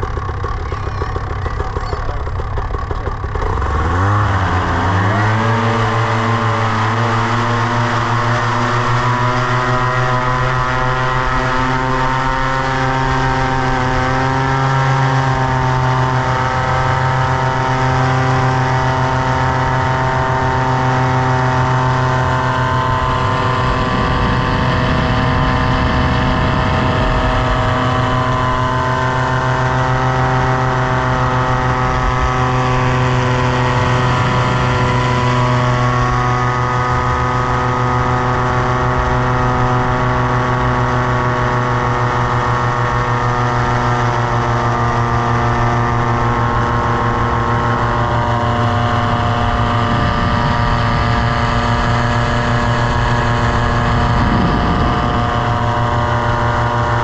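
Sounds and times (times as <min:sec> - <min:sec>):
paramotor engine droning: 0:00.0 - 0:57.0.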